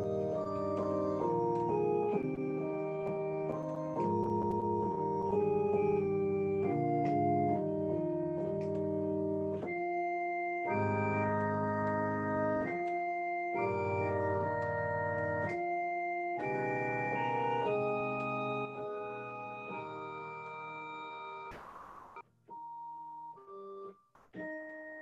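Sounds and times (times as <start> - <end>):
organ chords on electronic keyboard: 0.0 - 25.0.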